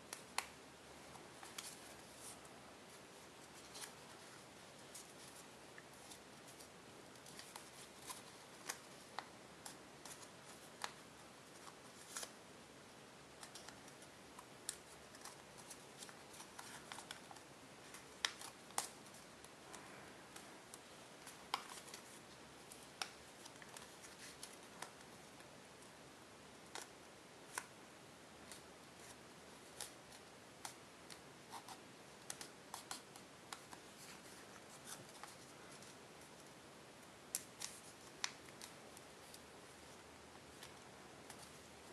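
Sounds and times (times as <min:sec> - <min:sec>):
faint hiss: 0:00.0 - 0:41.9.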